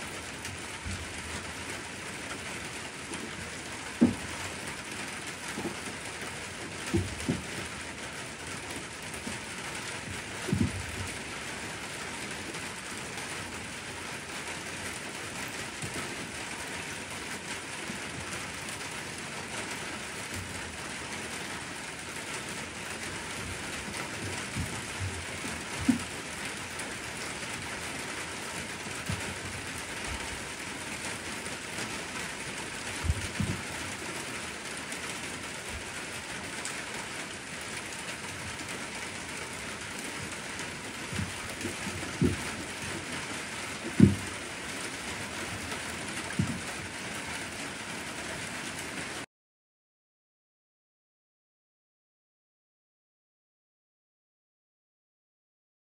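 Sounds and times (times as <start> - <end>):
rain hissing: 0.0 - 49.3.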